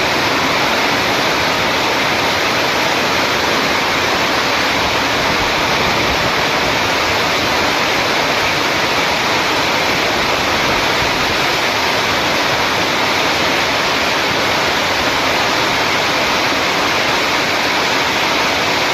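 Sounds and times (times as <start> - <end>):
heavy rain hissing: 0.0 - 18.9.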